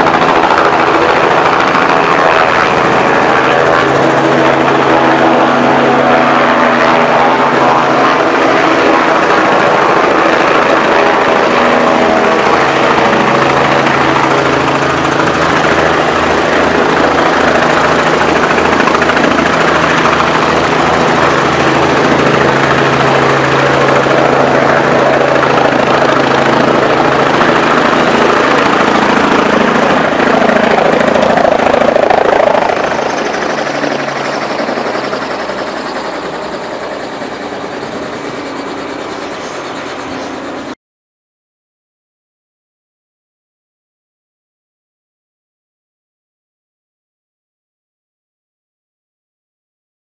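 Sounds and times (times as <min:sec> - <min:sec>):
helicopter hovering: 0:00.0 - 0:40.8.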